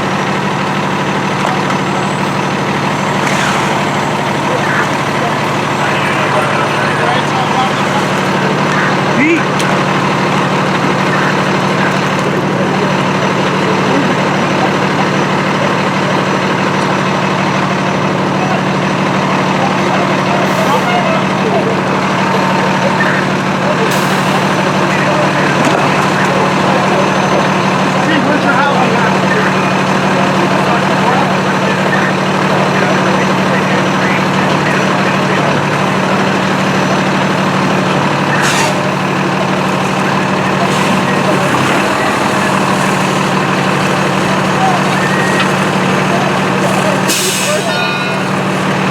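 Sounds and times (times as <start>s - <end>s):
large engine idling: 0.0s - 48.9s.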